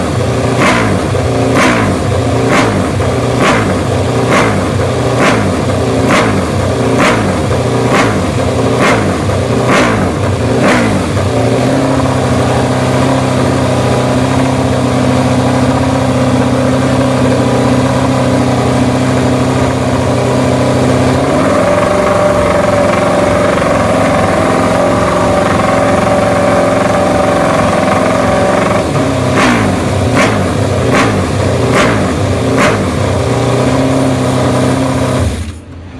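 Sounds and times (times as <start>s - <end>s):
motorcycle engine revving: 0.0s - 35.7s.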